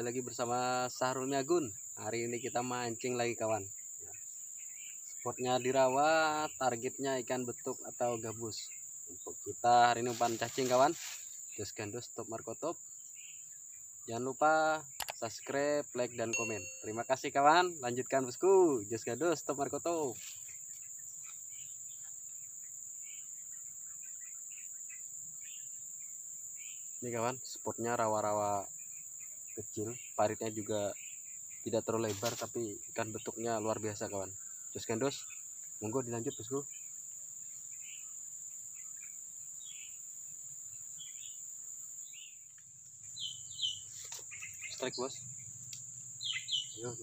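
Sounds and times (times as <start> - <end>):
faint bird chirps: 0.0 - 40.0, 40.6 - 47.0
high-pitched insect drone: 0.0 - 47.0.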